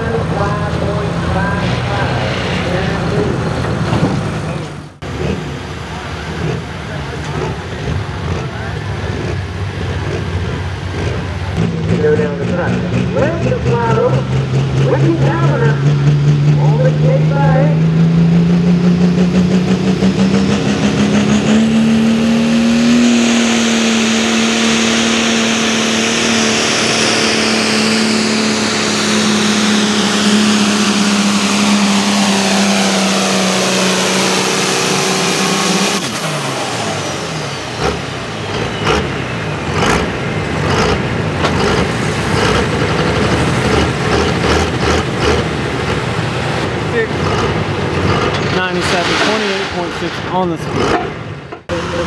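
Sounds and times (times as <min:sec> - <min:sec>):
tractor engine at full throttle: 0:00.0 - 0:52.0.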